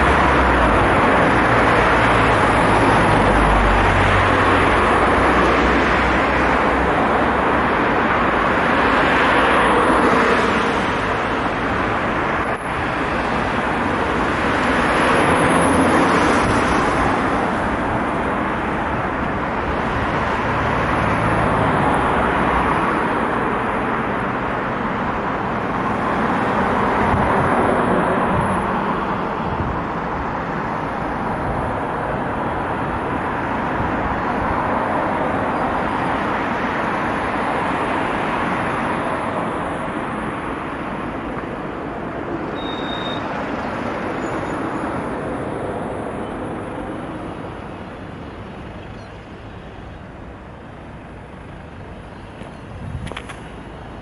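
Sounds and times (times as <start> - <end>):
cars and vans passing: 0.0 - 54.0.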